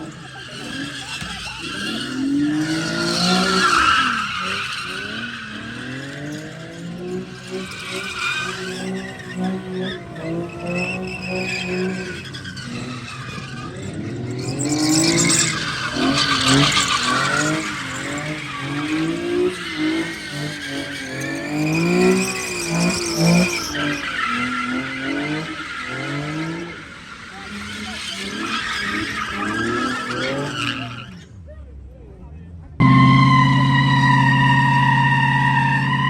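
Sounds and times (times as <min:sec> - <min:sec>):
tires squealing and skidding: 0:00.0 - 0:31.6, 0:32.8 - 0:36.0
car engine revving: 0:00.0 - 0:36.0.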